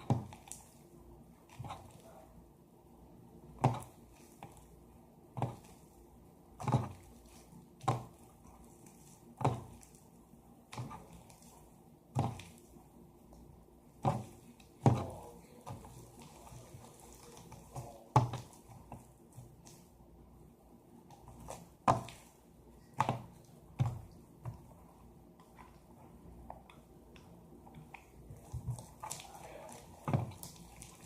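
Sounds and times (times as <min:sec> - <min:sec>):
slime squelching: 0:00.0 - 0:31.0.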